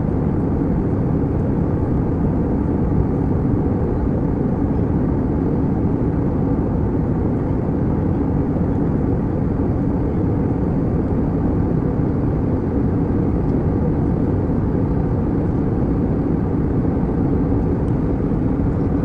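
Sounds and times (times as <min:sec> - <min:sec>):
jet cabin roar: 0:00.0 - 0:19.0.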